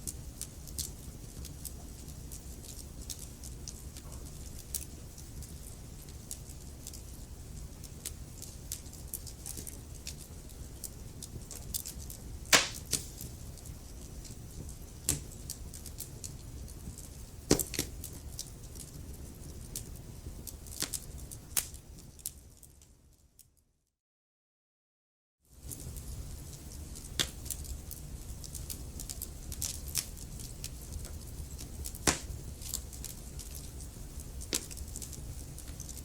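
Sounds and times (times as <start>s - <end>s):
wood fire crackling and popping: 0.0s - 22.9s, 25.6s - 36.0s
low rumble of flames: 0.0s - 23.1s, 25.5s - 36.0s.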